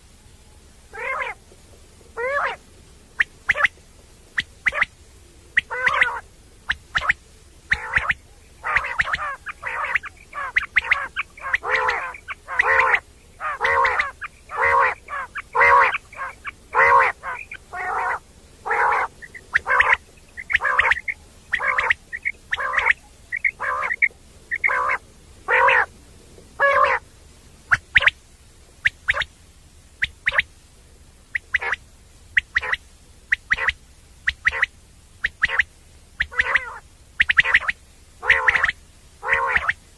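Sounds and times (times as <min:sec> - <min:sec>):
quail calling: 0:00.9 - 0:28.2, 0:28.8 - 0:29.4, 0:30.0 - 0:30.6, 0:31.3 - 0:39.9.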